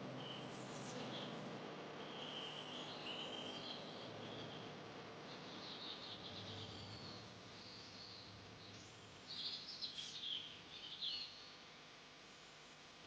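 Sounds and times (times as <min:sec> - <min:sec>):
small birds chirping: 0:00.0 - 0:01.4, 0:02.0 - 0:11.6.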